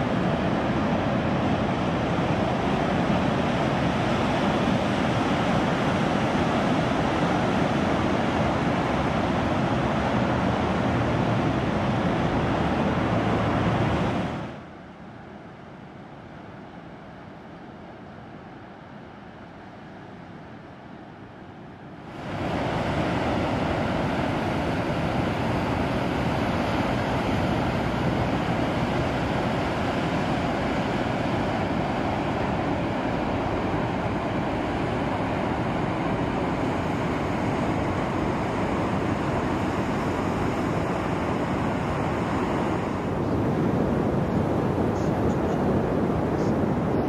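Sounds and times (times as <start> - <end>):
ocean surf on a beach: 0.0 - 47.0
wind: 0.0 - 47.0.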